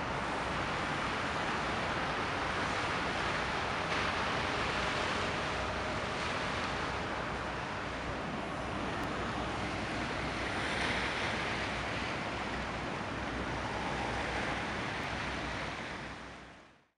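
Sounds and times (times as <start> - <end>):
wind and sea rushing: 0.0 - 16.9.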